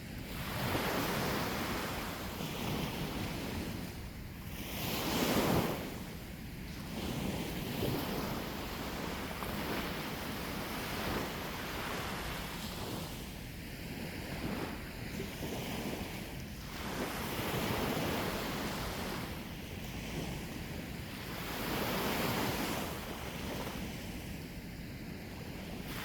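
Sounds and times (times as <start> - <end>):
sea waves breaking on shore: 0.0 - 26.0
wind rumbling on microphone: 0.0 - 26.0.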